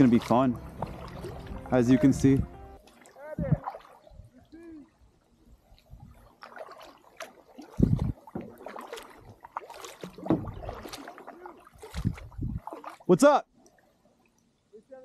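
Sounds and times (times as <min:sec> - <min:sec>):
paddle splashing in water: 0:00.0 - 0:13.2.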